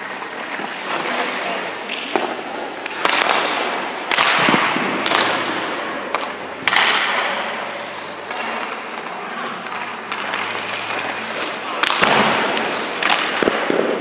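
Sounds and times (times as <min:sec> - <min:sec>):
skate blades scraping on ice: 0:00.0 - 0:14.0.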